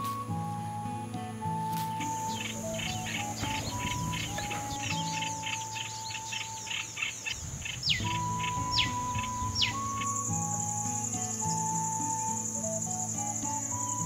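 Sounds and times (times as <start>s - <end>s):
falling whistled bird calls: 0.0s - 14.0s
high-pitched insect drone: 0.0s - 14.0s
birds chirping rapidly: 2.0s - 14.0s.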